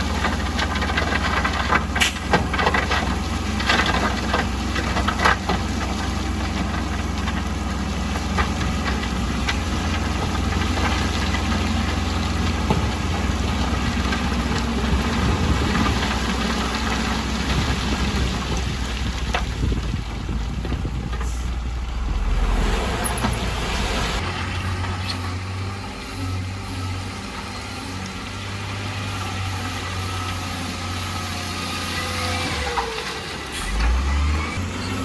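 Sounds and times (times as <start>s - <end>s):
heavy construction machinery engines: 0.0s - 35.0s.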